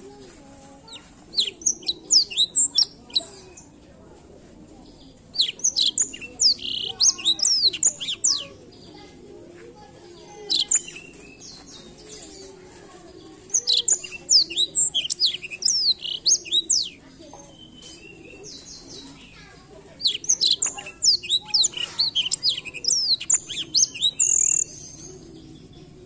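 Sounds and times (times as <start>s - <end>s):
canary twittering song: 0.8s - 3.7s, 5.3s - 8.9s, 10.2s - 12.6s, 13.4s - 25.9s.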